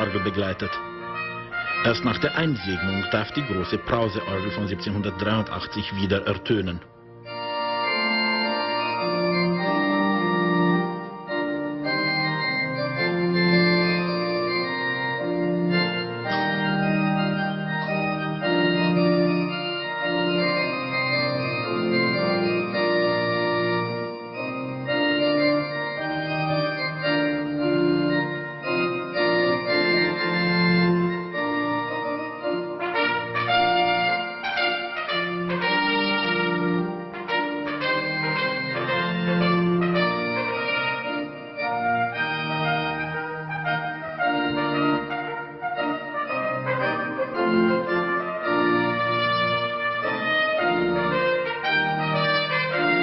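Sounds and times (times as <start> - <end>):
organ playing sustained chords: 0.0 - 53.0.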